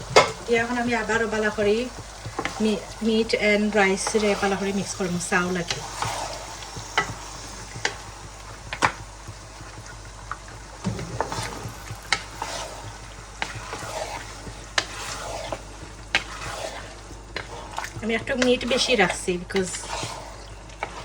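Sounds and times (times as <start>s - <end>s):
food sizzling in pot: 0.0s - 21.0s
spoon knocking and scraping pot: 0.0s - 21.0s.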